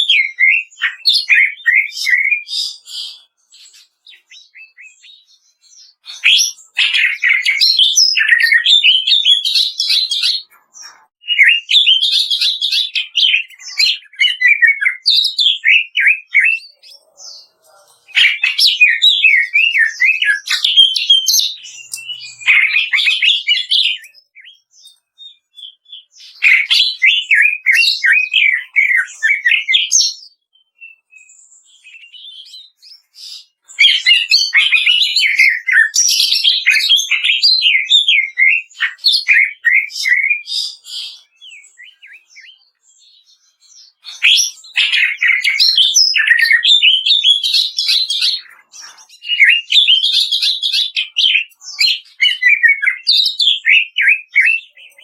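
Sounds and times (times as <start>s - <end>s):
leafbird chattering song: 0.0s - 55.0s.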